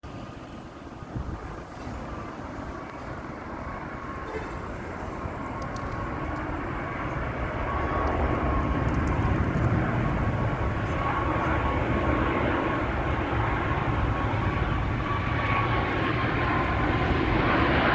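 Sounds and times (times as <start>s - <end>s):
jet engines rumbling: 0.0s - 17.9s.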